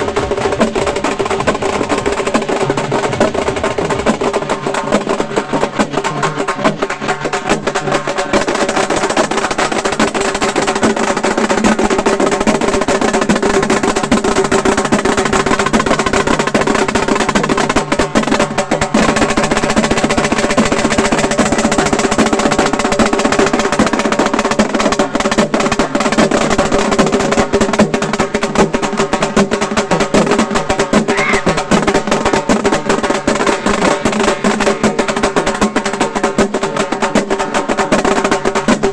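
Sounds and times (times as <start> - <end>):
frame drums beaten with sticks: 0.0 - 38.9.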